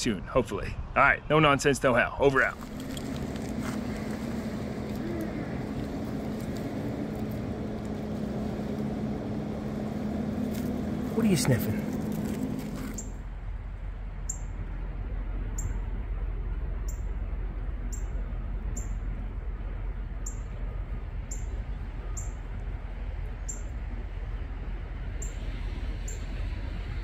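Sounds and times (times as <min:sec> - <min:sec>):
low steady rumble: 0:02.0 - 0:27.0.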